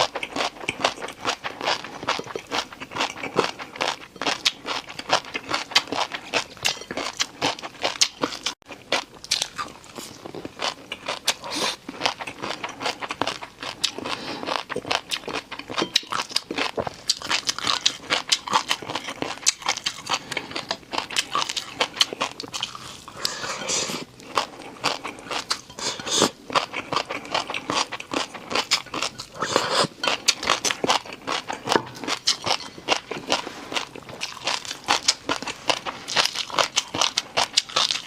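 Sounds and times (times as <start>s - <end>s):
chewing crunchy noodles: 0.0s - 38.0s.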